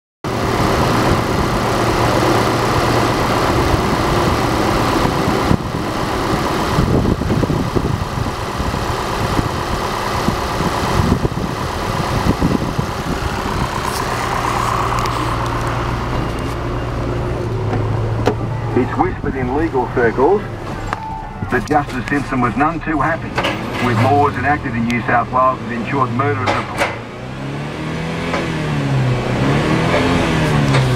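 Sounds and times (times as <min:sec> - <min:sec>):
car engine running: 0:00.2 - 0:30.9.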